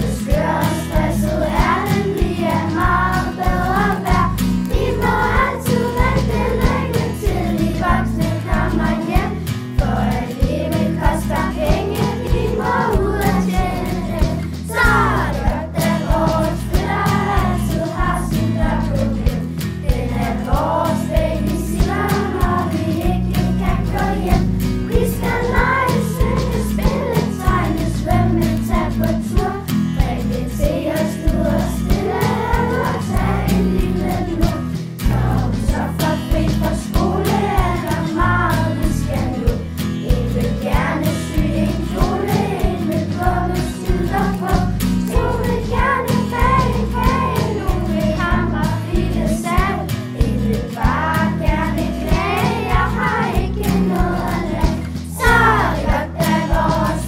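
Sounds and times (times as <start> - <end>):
backing track with beat and bass: 0.0 - 57.0
children singing: 0.0 - 57.0.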